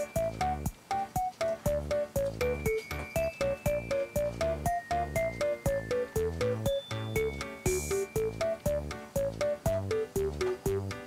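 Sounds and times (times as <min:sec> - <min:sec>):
keyboard melody: 0:00.0 - 0:11.0.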